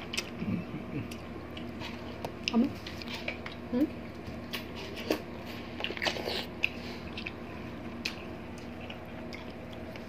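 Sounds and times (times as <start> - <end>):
chewing watermelon: 0.0 - 10.0
faint steady hum: 0.0 - 10.0.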